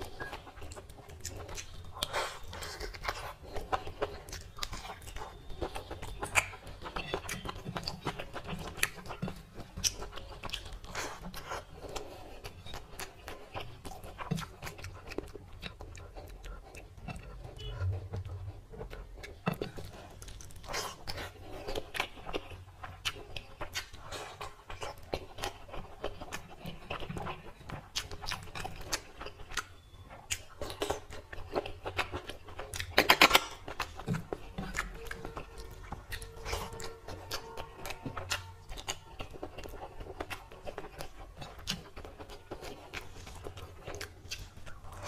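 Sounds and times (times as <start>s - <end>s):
wet chewing and lip-smacking: 0.0s - 45.0s.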